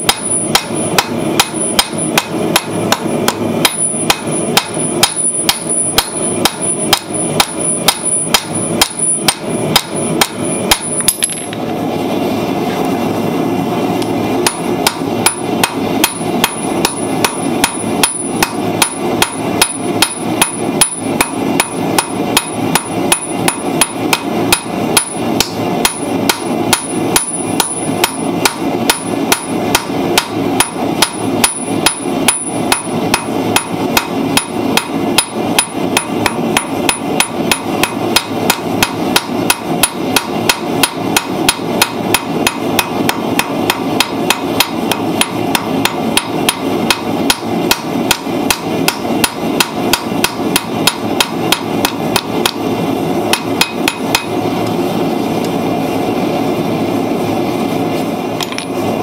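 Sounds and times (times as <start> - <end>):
hammer striking steel on anvil: 0.0 - 11.6, 14.0 - 52.7, 53.3 - 54.4, 58.4 - 58.8.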